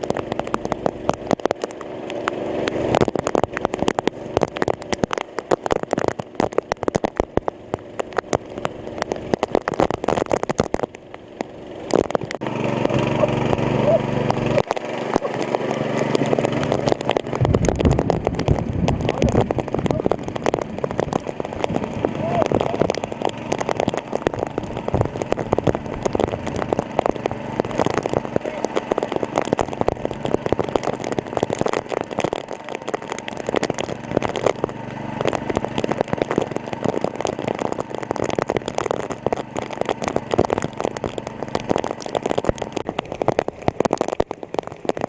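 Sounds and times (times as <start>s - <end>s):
small engine driving water pump: 0.0s - 45.0s.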